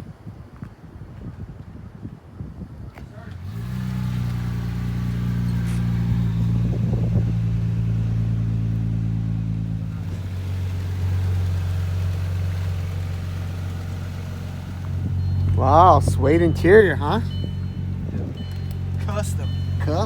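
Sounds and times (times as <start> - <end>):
car engine idling: 3.4 - 20.0.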